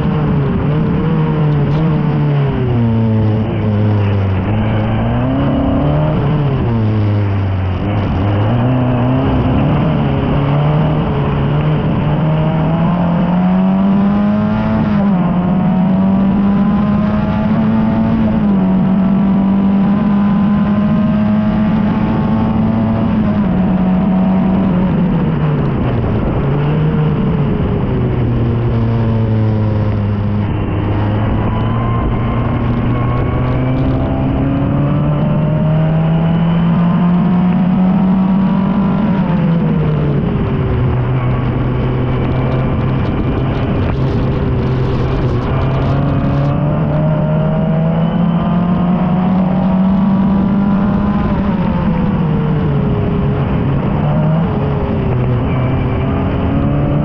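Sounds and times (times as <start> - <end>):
racing car engine accelerating: 0.0 - 57.0.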